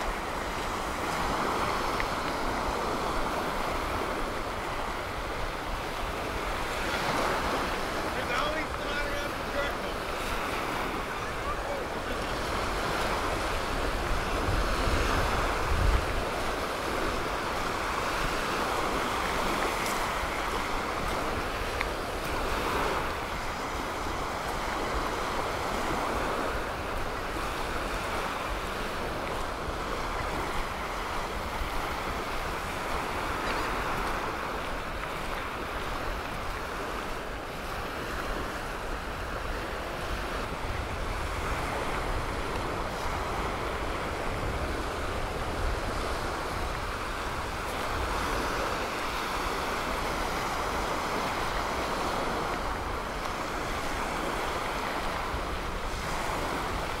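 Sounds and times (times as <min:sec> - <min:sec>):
surf washing onto beach: 0:00.0 - 0:57.0
wind buffeting microphone: 0:00.0 - 0:57.0.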